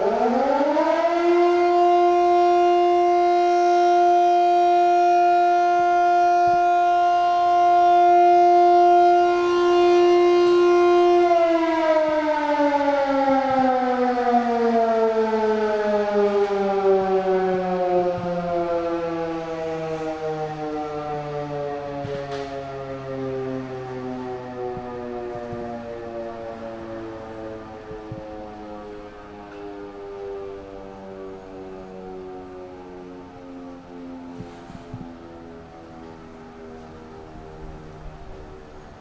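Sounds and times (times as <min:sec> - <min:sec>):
siren: 0:00.0 - 0:39.0.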